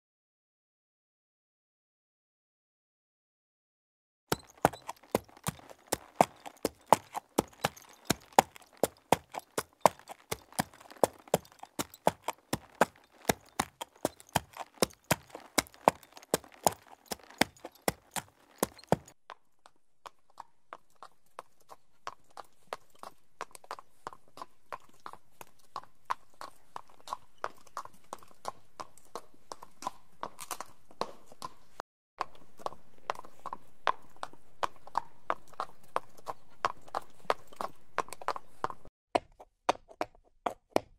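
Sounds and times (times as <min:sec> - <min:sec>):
horse hooves clip-clopping: 0:04.3 - 0:19.2, 0:20.0 - 0:38.9.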